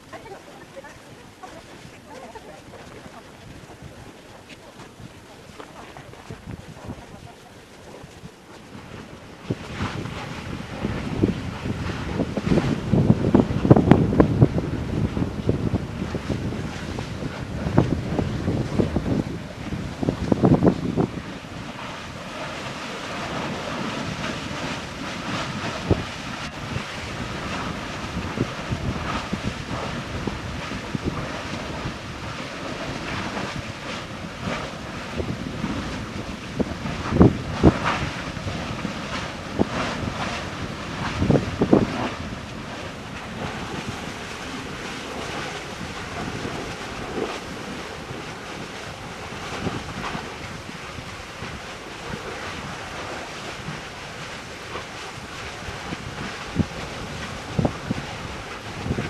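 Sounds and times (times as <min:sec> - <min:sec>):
lava lake churning: 0:00.0 - 0:59.0
wind buffeting microphone: 0:00.0 - 0:59.0.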